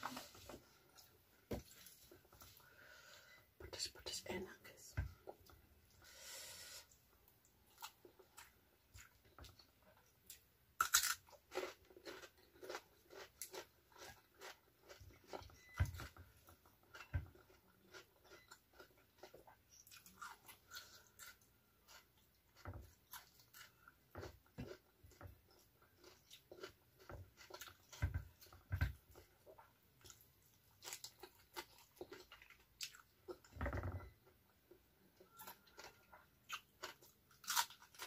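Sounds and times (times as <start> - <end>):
person chewing crunchy food: 7.4 - 38.0.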